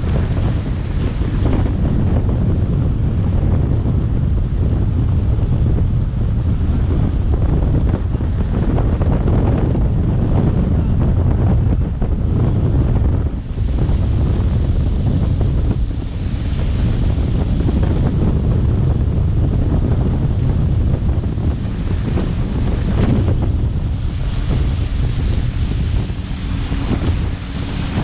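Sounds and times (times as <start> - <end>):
water rushing: 0.0 - 28.0
wind buffeting microphone: 0.0 - 28.0.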